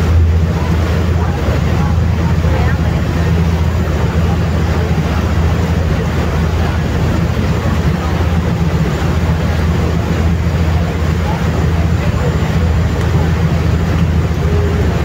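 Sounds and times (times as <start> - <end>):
ferry engine drone: 0.0 - 15.0
water churning in wake: 0.0 - 15.0.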